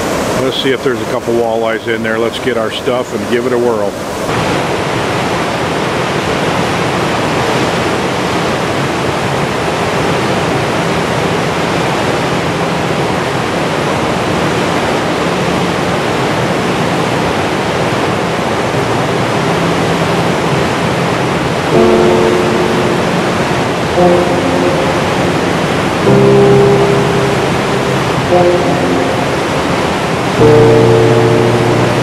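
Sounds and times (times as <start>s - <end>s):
water rushing over rocks: 0.0s - 32.0s.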